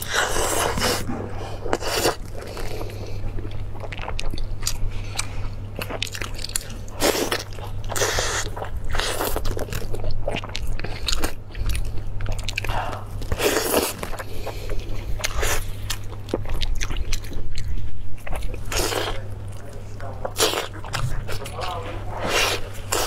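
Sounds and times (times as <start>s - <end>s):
person biting and chewing: 0.0s - 19.6s
low steady hum: 0.0s - 23.0s.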